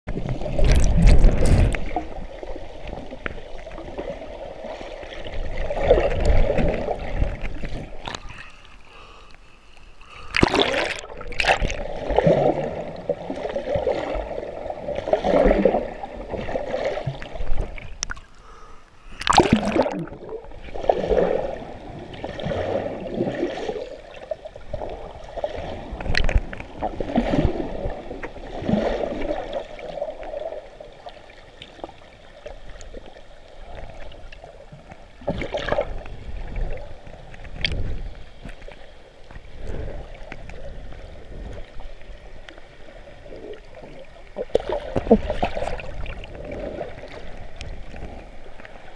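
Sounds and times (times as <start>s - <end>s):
water splashes: 0.1s - 9.2s, 9.8s - 48.9s
muffled underwater sloshing: 0.1s - 48.9s.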